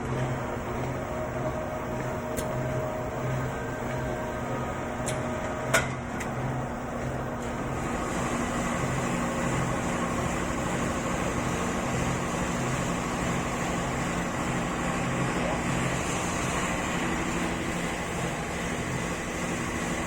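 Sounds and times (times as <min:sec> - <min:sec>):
machine humming with low throb: 0:00.0 - 0:20.0.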